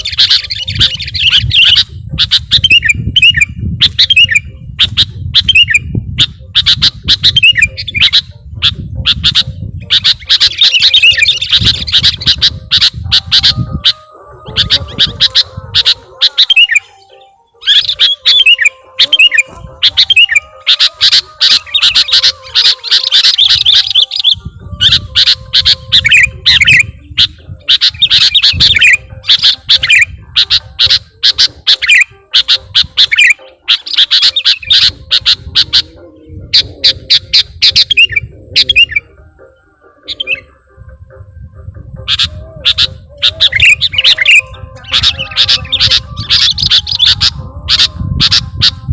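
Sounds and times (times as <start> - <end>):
bird singing sharp chirps: 0.0 - 48.9.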